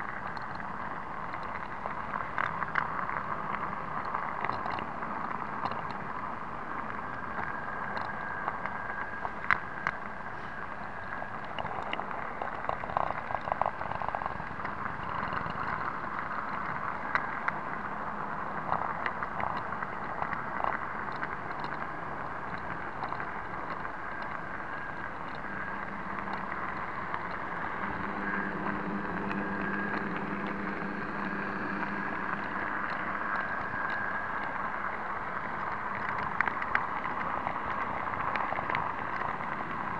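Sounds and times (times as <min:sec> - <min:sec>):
low hum: 0:00.0 - 0:39.9
wheels clicking on track: 0:00.0 - 0:39.9
model locomotive motor whine: 0:04.8 - 0:39.9.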